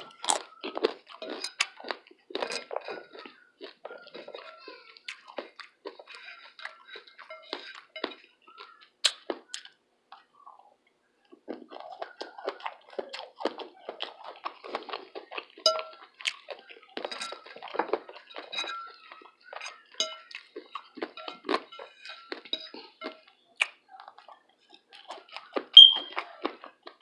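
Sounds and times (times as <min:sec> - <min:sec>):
crunchy chewing: 0:00.0 - 0:27.0.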